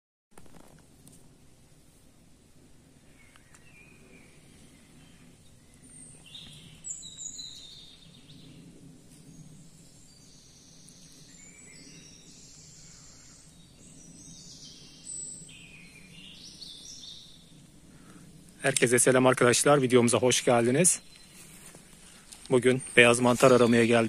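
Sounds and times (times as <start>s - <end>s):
faint birdsong: 0.4s - 24.0s.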